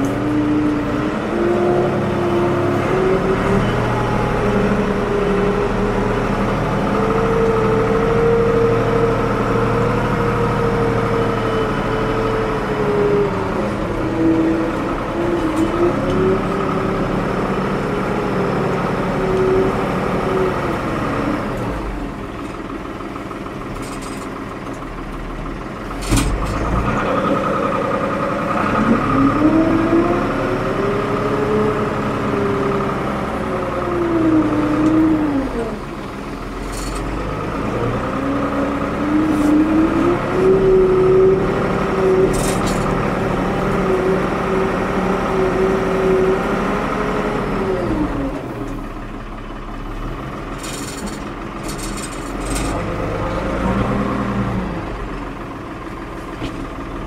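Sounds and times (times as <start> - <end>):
backhoe diesel engine working: 0.0 - 57.0.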